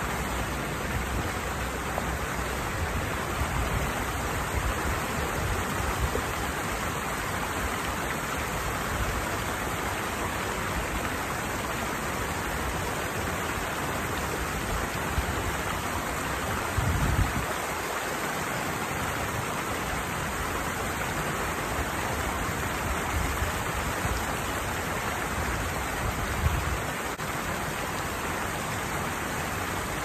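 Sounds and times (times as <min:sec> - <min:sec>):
water rushing over cascade: 0:00.0 - 0:30.0.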